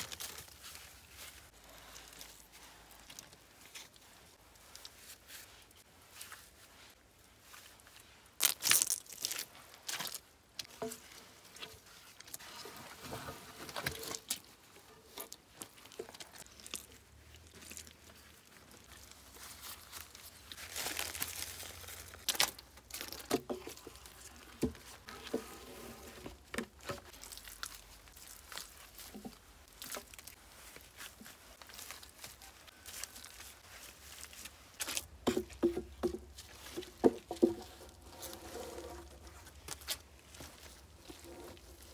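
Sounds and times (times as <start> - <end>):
moss and soil rustling: 0.0 - 41.9.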